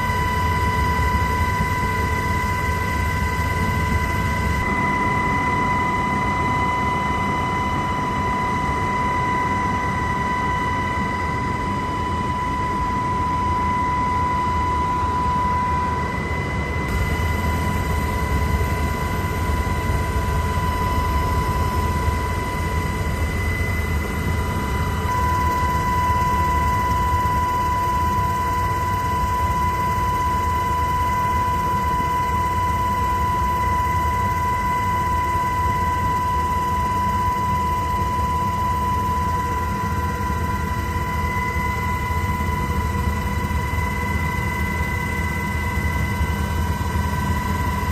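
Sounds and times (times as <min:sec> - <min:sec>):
high whine: 0:00.0 - 0:47.9.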